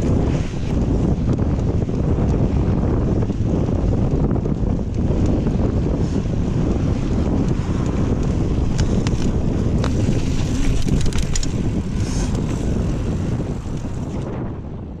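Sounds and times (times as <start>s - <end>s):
bike clicks and rattles: 0.0s - 14.3s
wind rumble on microphone: 0.0s - 15.0s.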